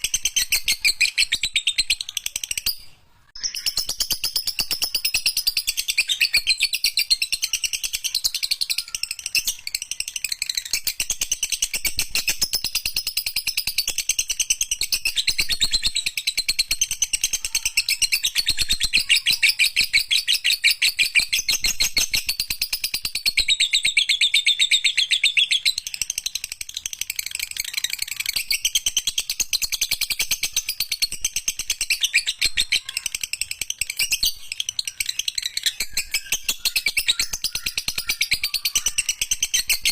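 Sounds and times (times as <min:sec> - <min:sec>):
lovebird chattering song: 0:00.0 - 0:39.9.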